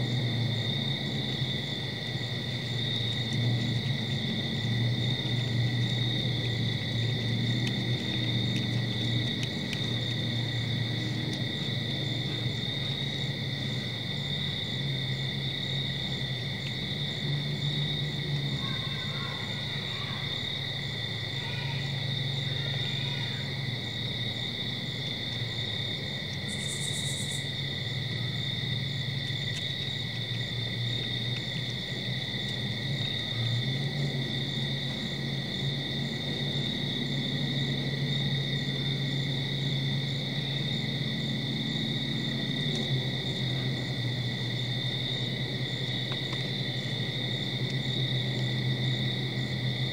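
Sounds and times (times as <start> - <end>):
crickets and insects trilling: 0.0 - 49.9.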